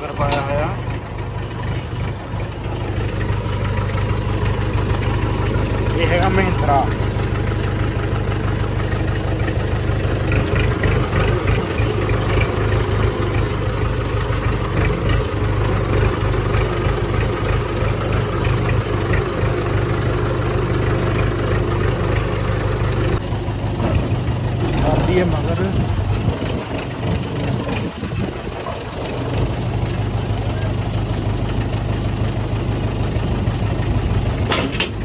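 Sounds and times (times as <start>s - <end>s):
tractor diesel engine idling: 0.0s - 35.0s.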